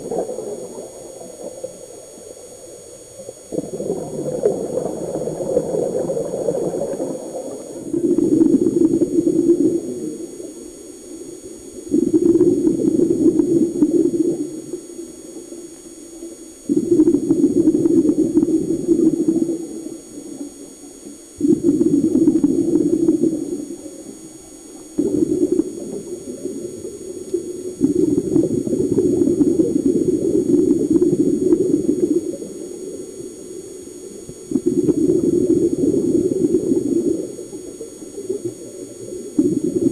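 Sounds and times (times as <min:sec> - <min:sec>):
diver exhaling bubbles underwater: 0:03.4 - 0:10.7, 0:11.8 - 0:15.0, 0:16.6 - 0:39.9.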